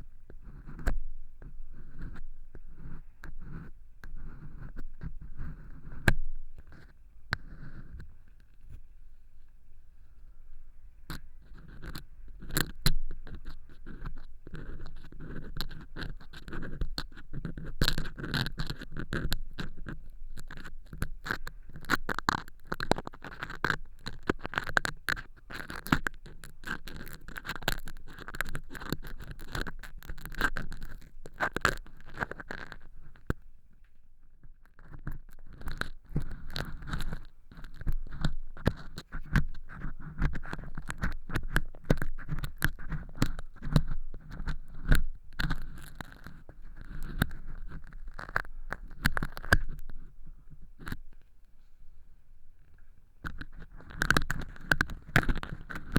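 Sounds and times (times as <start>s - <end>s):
earpick scraping and crackling: 0.3s - 8.8s, 11.0s - 51.3s, 52.6s - 55.9s.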